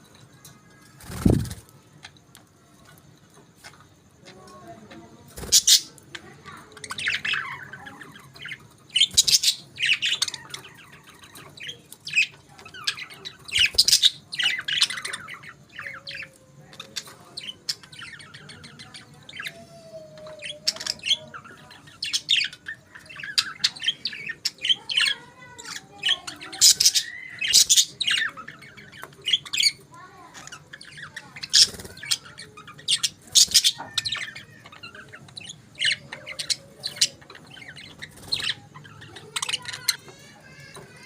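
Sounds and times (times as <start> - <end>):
budgerigars chirping and chattering: 0.0 - 41.0.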